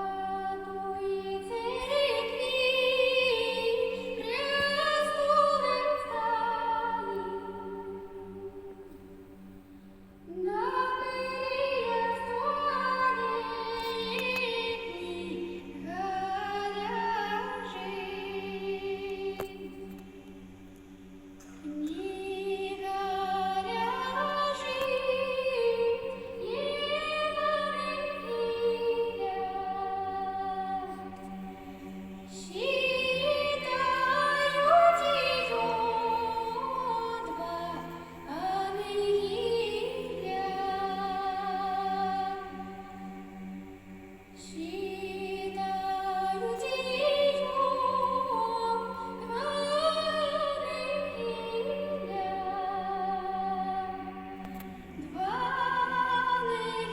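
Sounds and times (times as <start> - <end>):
woman singing with vibrato: 0.0 - 8.6, 10.4 - 19.6, 21.6 - 31.2, 32.3 - 43.1, 44.4 - 54.2, 55.0 - 56.9
men's choir low drone: 0.0 - 56.9.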